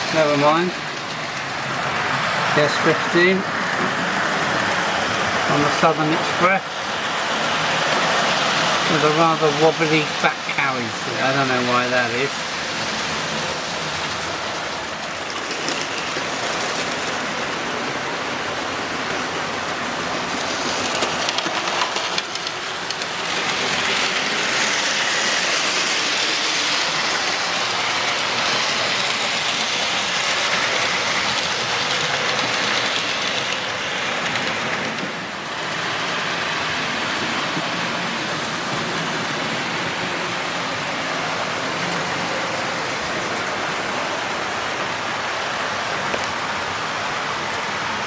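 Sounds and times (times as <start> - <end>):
model train wheels and motors hissing: 0.0 - 48.0
wheels clicking over rail joints: 0.0 - 48.0.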